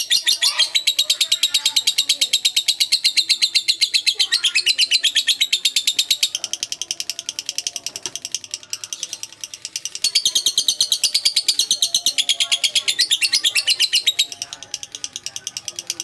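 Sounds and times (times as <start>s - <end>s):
rapid high-pitched chirping: 0.0s - 16.0s.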